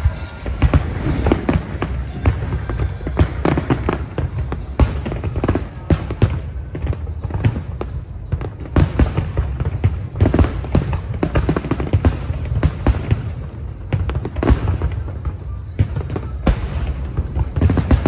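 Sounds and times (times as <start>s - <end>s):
fireworks bangs and crackling: 0.0s - 18.0s
loud fireworks booms: 0.0s - 18.0s.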